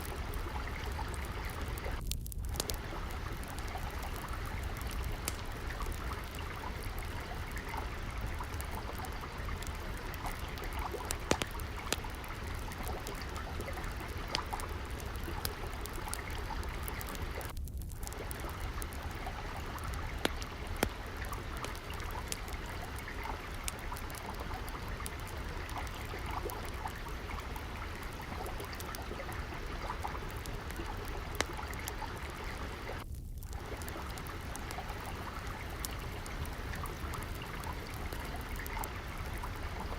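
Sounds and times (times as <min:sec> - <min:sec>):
trickle of flowing water: 0:00.0 - 0:39.9
wood fire crackling: 0:00.0 - 0:39.9.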